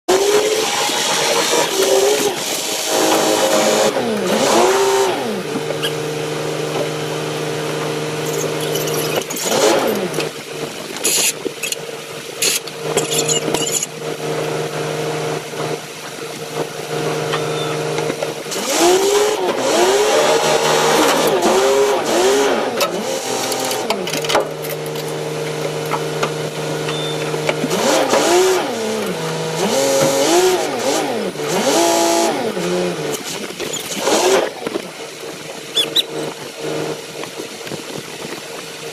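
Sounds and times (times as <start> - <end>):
boat engine revving: 0.1 - 38.9.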